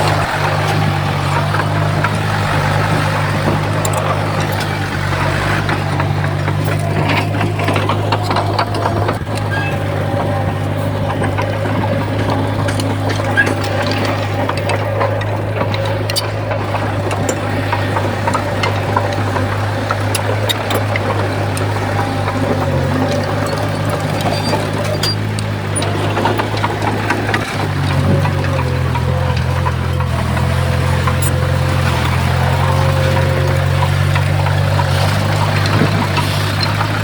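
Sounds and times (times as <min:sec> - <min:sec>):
bulldozer diesel engine running: 0:00.0 - 0:37.0
clicks and clatter: 0:00.0 - 0:37.0.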